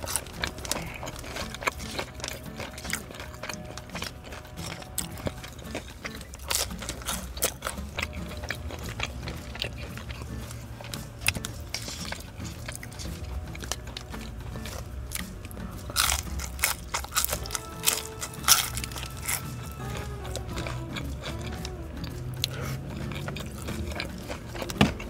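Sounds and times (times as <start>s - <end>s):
person chewing with wet smacks: 0.0s - 25.0s
steady low hum: 0.0s - 25.0s.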